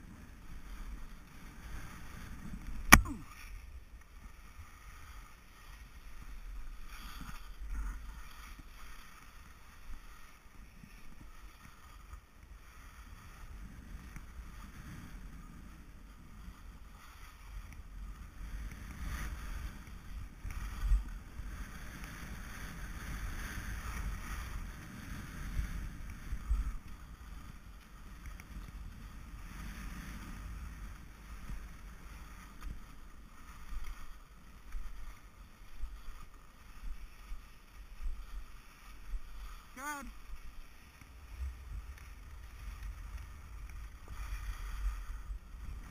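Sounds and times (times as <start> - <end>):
skis scraping over snow: 0.0 - 45.9
wind rumbling on microphone: 0.0 - 45.9.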